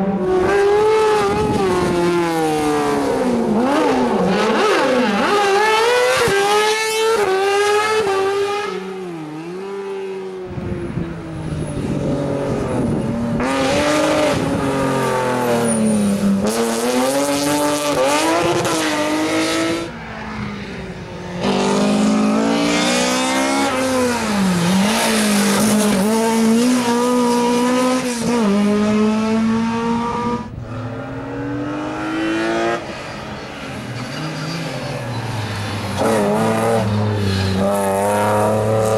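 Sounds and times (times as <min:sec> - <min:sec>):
rally car engines revving: 0:00.0 - 0:38.9.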